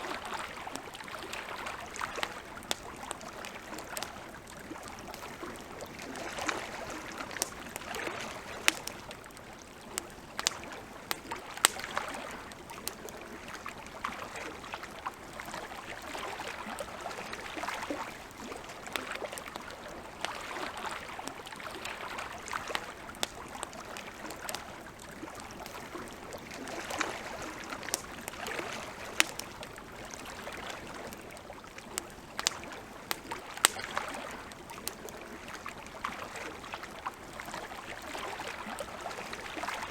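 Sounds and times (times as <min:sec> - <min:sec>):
water lapping: 0:00.0 - 0:39.9
campfire crackling and popping: 0:00.1 - 0:39.9.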